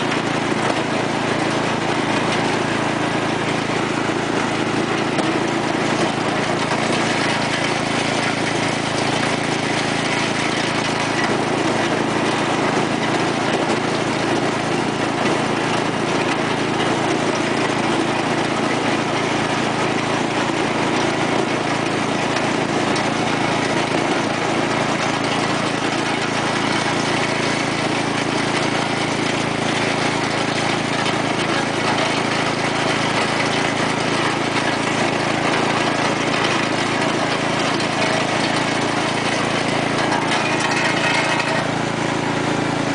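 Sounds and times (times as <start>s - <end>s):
lawn tractor engine running: 0.0s - 42.9s.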